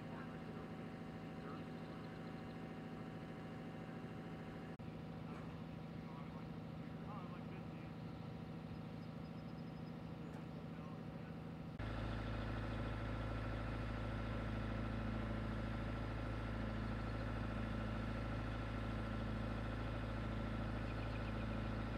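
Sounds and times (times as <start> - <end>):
vehicle engine idling: 0.0 - 21.9.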